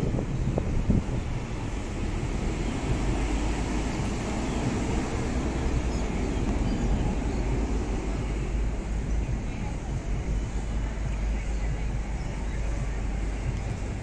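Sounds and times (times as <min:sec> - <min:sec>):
street traffic: 0:00.0 - 0:14.0
wind buffeting microphone: 0:00.0 - 0:14.0.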